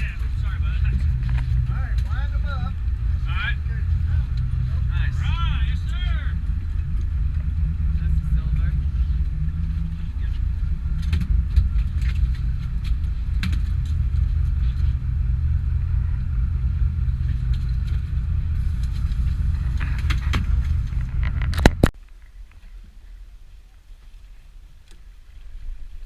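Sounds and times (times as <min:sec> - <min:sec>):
boat engine humming: 0:00.0 - 0:21.9
gear clicking and rattling: 0:00.0 - 0:21.9.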